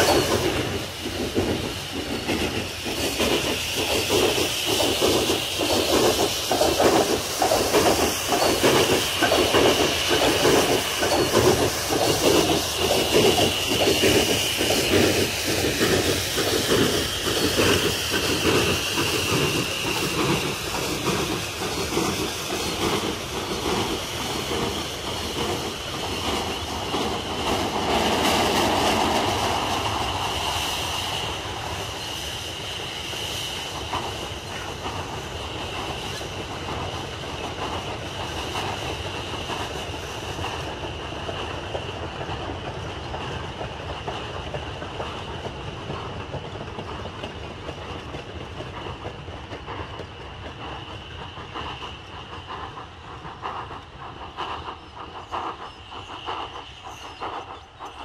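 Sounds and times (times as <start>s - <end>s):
train wheels clattering: 0.0s - 58.0s.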